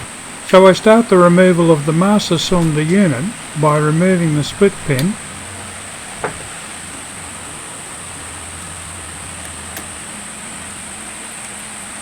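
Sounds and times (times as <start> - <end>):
low hum: 0.0 - 11.2
steady hiss: 0.0 - 12.0.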